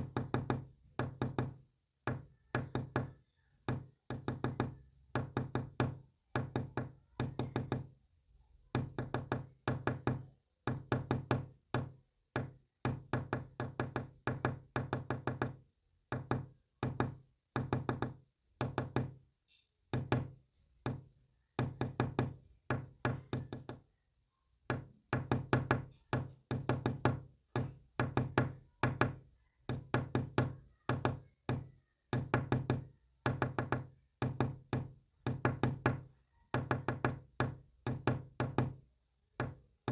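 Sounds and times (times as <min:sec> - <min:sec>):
knocks on a hard surface: 0:00.0 - 0:07.9, 0:08.7 - 0:19.2, 0:19.9 - 0:23.8, 0:24.7 - 0:38.8, 0:39.4 - 0:39.9.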